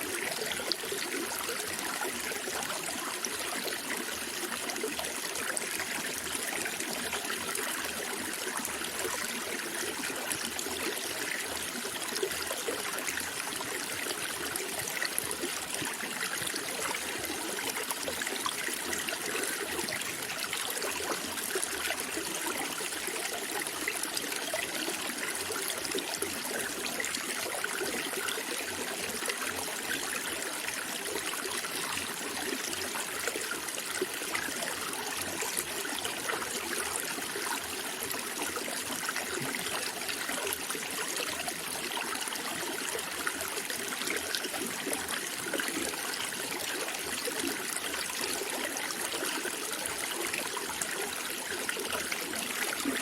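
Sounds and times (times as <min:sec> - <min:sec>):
stream water trickling and babbling: 0:00.0 - 0:53.0.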